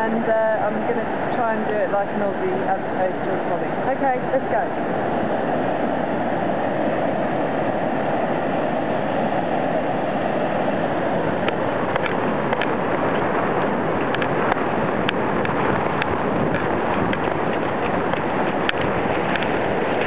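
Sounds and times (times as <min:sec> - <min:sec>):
ocean surf rushing: 0:00.0 - 0:20.0
wind buffeting microphone: 0:00.0 - 0:20.0.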